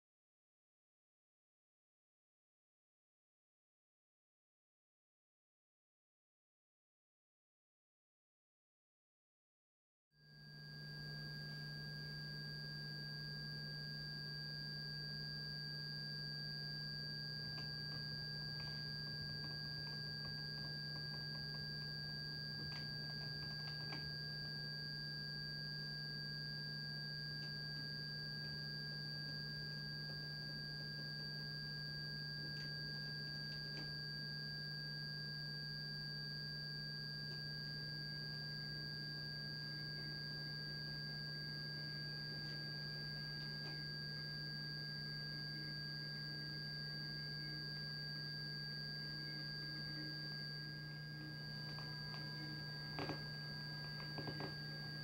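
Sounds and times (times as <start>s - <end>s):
high thin sine tones: 10.2s - 55.0s
low electronic hum: 10.2s - 55.0s.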